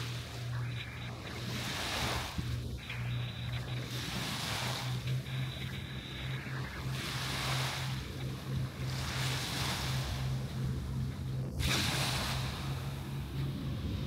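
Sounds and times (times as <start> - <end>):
small waves breaking on beach: 0.0 - 10.5, 11.6 - 13.2
low hum: 0.0 - 14.0.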